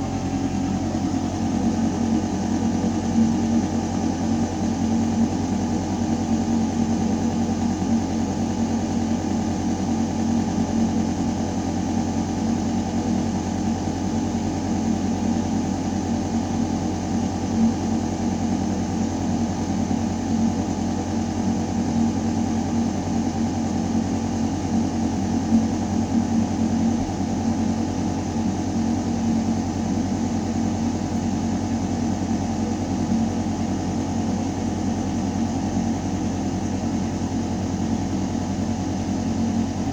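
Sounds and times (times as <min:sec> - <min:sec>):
ventilation system humming: 0:00.0 - 0:17.8, 0:19.4 - 0:39.9.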